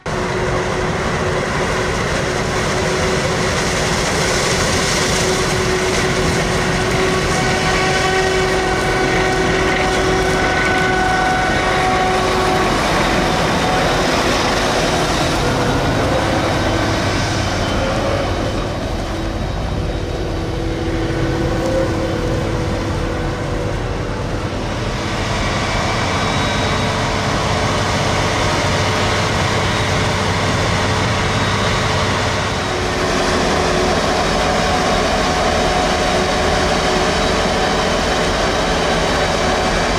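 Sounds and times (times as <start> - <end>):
heavy engine drone: 0.0 - 39.9.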